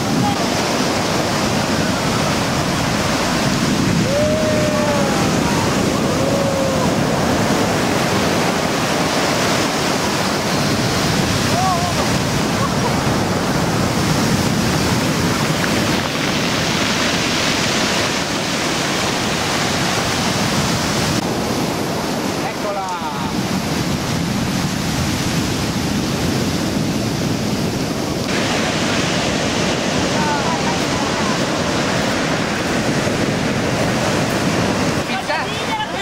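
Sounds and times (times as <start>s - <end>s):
sea surf breaking: 0.0s - 36.0s
wind on microphone: 0.0s - 36.0s.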